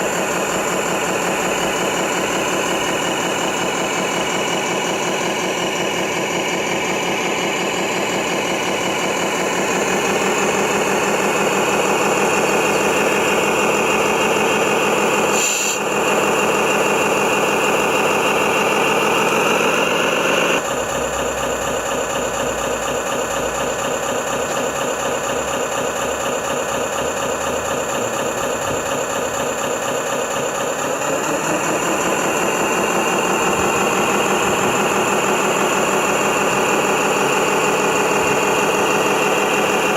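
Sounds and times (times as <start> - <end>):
model truck engines revving: 0.0 - 39.9.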